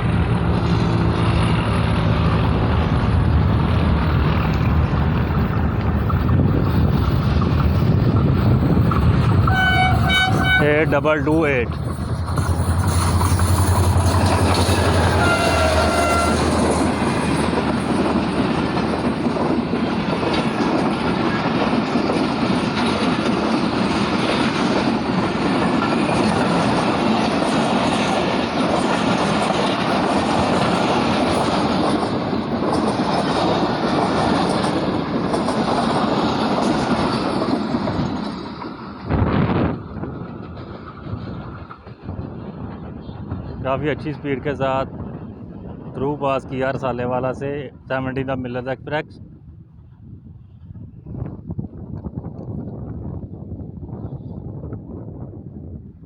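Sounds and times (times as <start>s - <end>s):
clickety-clack of train wheels: 0.0s - 48.3s
train coaches rumbling past: 0.0s - 56.0s.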